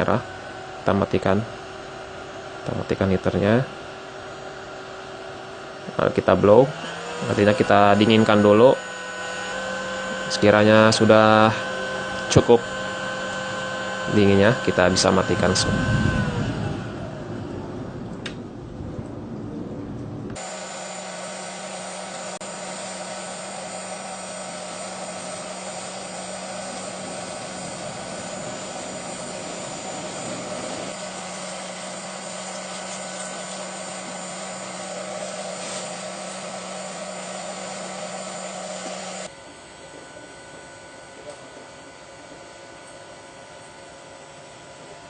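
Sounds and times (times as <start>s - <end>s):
blower fan rushing air: 0.0s - 45.0s.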